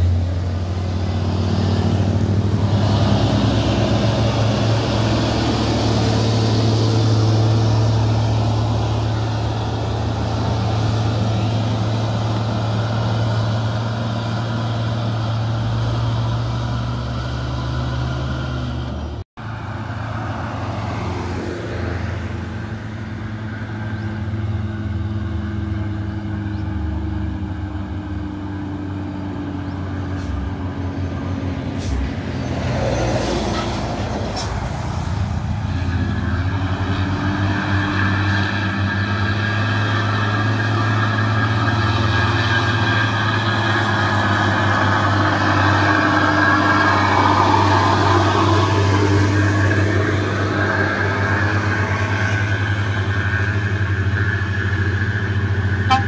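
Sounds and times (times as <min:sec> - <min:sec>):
diesel truck engine drone: 0:00.0 - 0:56.0
truck engine sliding whine: 0:00.0 - 0:56.0.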